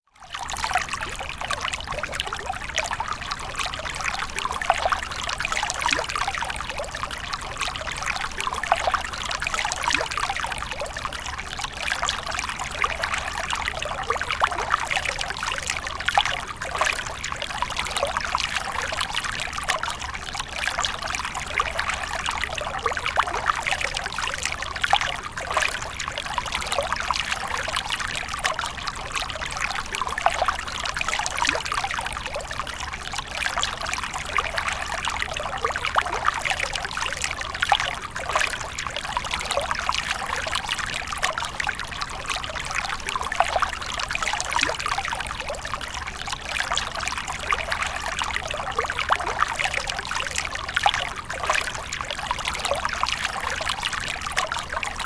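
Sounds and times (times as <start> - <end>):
water splashing and trickling: 0.1 - 55.0.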